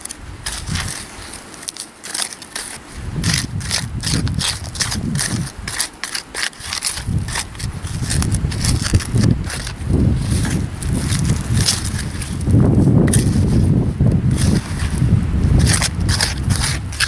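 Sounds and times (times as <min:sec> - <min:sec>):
digging tool scraping stones: 0:00.0 - 0:17.0.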